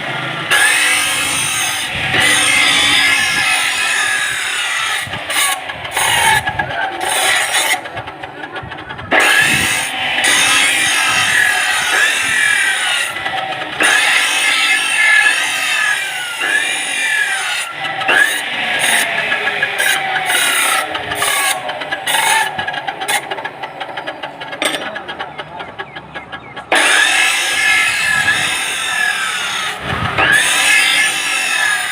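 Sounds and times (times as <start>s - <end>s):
workshop tool grinding: 0.0s - 31.9s.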